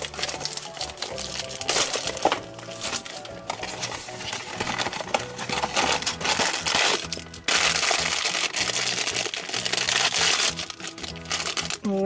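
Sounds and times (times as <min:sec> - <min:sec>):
cardboard packaging rustling: 0:00.0 - 0:12.0
plastic wrapper crinkling and tearing: 0:00.0 - 0:12.0.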